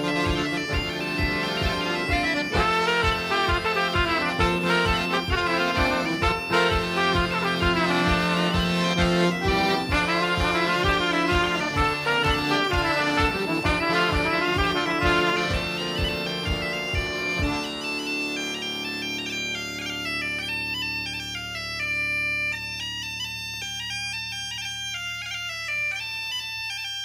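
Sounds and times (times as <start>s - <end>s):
bagpipe drone: 0.0s - 27.0s
bagpipe melody: 0.0s - 27.0s.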